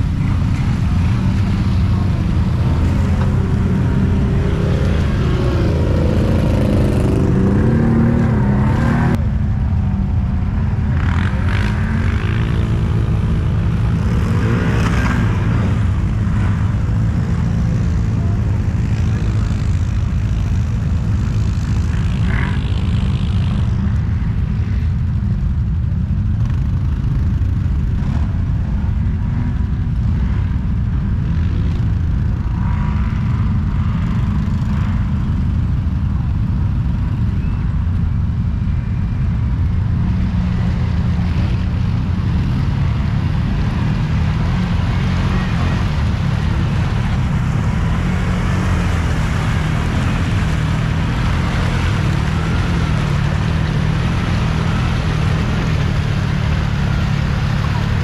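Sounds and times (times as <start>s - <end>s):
other atv engines revving: 0.0s - 25.4s, 26.4s - 58.0s.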